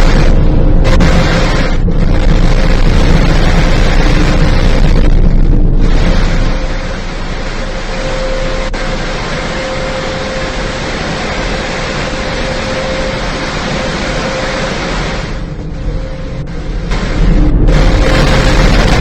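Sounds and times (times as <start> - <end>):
car wash rushing hiss: 0.0 - 19.0
steady machine whine: 0.0 - 19.0.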